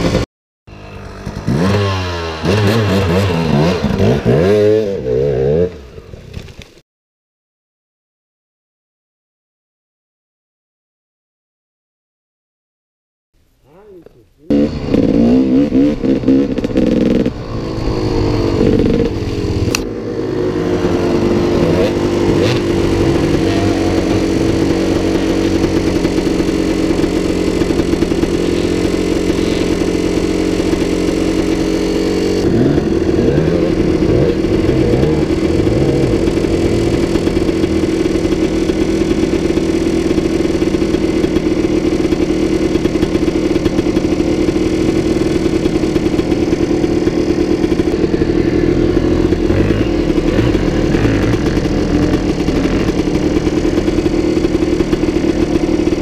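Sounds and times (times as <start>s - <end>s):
motorcycle engine running: 0.0s - 5.9s, 13.8s - 56.0s.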